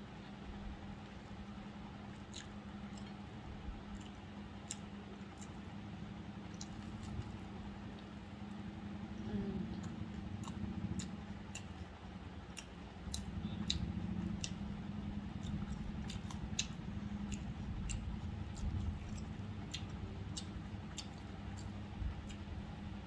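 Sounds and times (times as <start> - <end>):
steady low hum: 0.0 - 23.0
person chewing food: 1.0 - 23.0.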